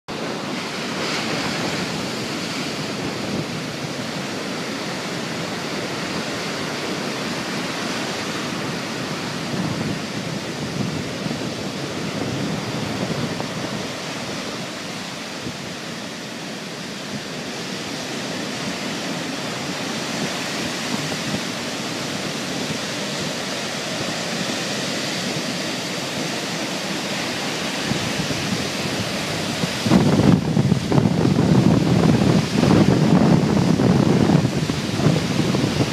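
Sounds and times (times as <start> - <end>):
waves breaking on a beach: 0.1 - 35.9.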